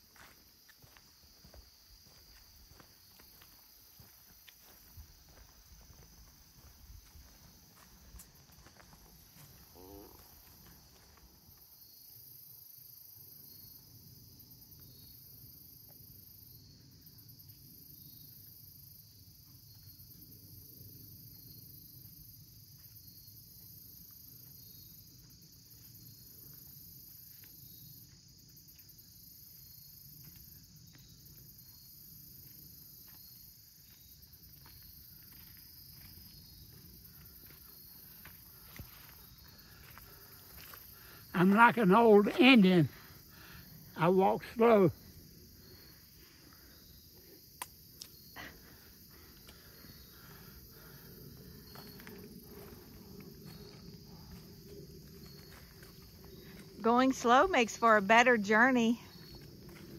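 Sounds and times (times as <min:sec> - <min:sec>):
soft footsteps on trail: 0:00.0 - 0:12.1, 0:21.9 - 0:59.9
crickets and insects chirping: 0:00.0 - 0:59.9.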